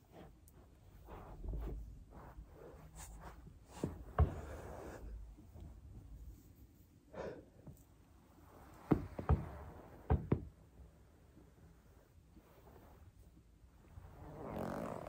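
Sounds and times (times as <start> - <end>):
soft rustling: 0.0 - 7.0, 7.7 - 15.0.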